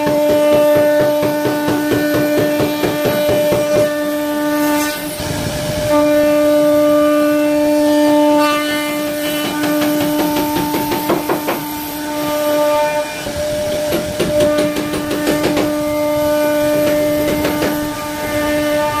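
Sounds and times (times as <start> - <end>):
router spindle whine: 3.0 - 19.0.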